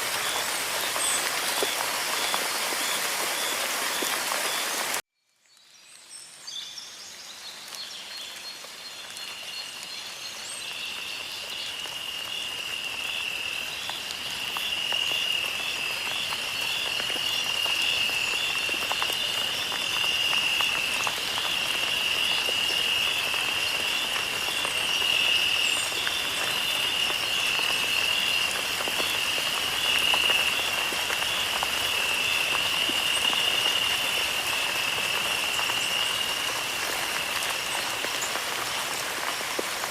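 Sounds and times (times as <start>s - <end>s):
fine patter like rain: 0.0s - 39.9s.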